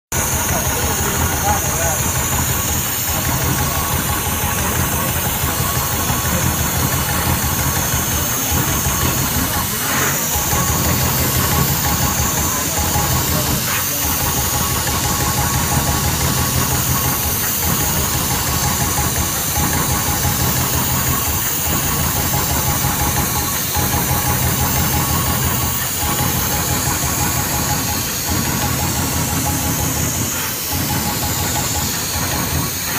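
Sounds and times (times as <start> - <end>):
punching machine clatter: 0.1 - 32.9.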